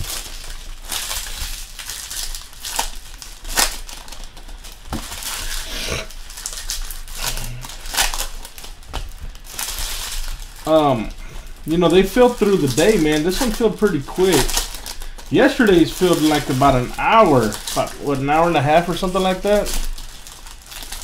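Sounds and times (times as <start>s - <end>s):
foil wrappers crinkling and tearing: 0.0s - 21.0s.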